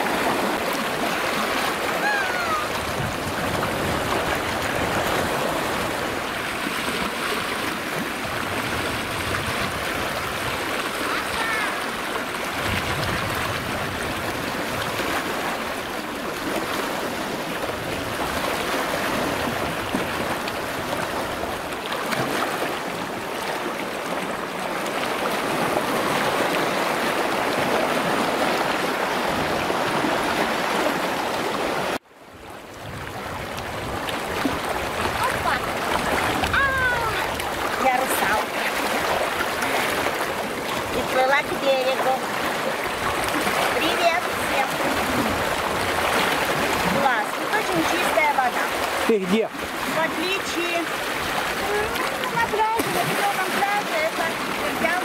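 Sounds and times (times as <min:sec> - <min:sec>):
waves lapping on rocky shore: 0:00.0 - 0:55.0.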